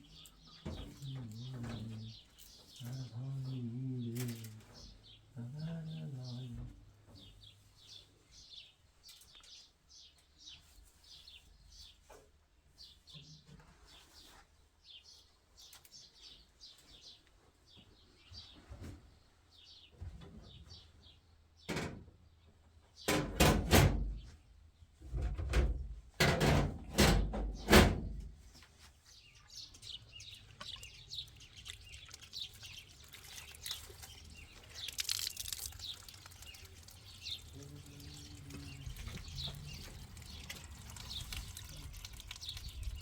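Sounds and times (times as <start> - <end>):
small birds chirping: 0.0 - 23.1, 28.4 - 43.0.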